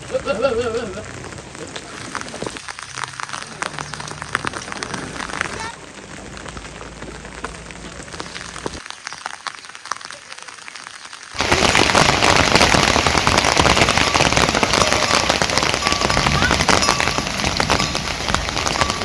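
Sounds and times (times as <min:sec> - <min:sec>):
heavy rain pattering: 0:00.0 - 0:19.0.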